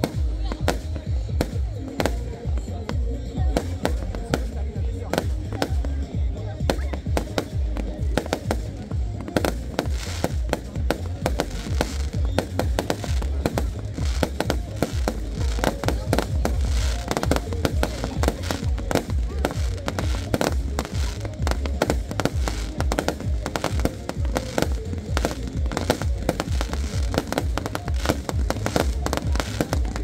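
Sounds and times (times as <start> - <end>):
fireworks bursting: 0.0 - 30.0
music playing: 0.0 - 30.0.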